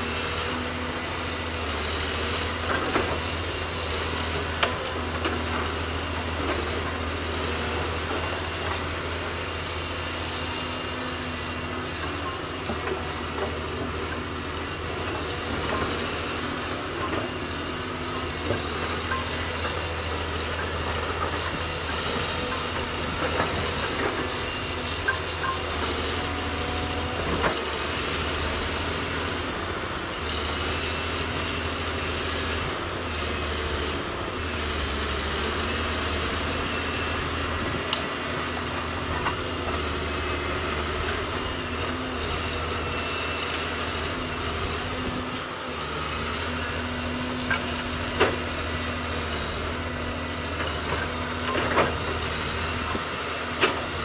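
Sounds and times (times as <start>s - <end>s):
excavator engine droning: 0.0s - 54.0s.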